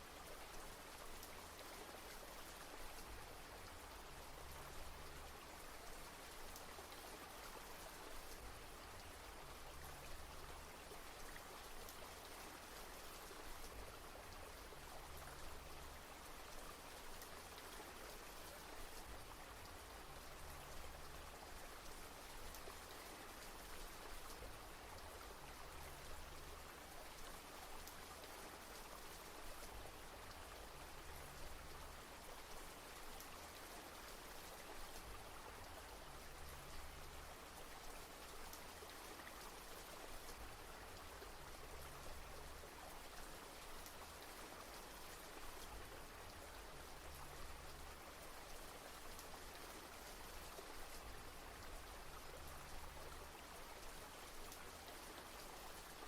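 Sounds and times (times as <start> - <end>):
soft rain pattering: 0.0 - 56.0.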